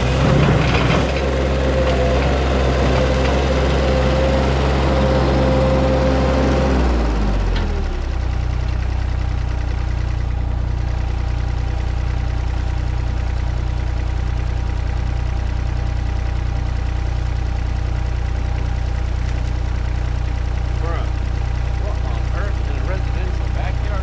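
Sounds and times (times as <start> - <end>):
skid steer engine idling: 0.0 - 24.0.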